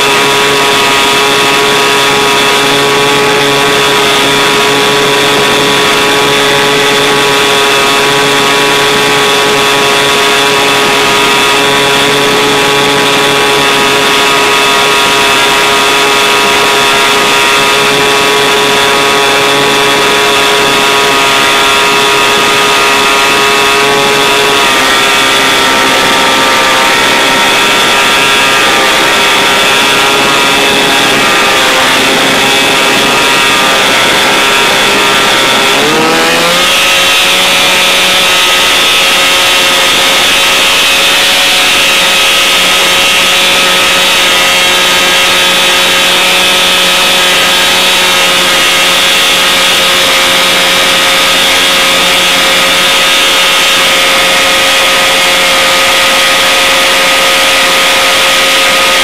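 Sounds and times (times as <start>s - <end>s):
airplane engine and propeller: 0.0s - 59.0s.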